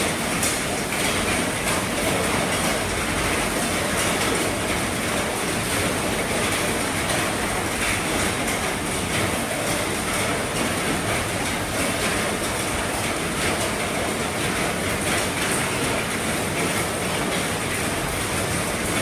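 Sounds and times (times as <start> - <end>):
heavy rain drumming on a roof: 0.0 - 19.0.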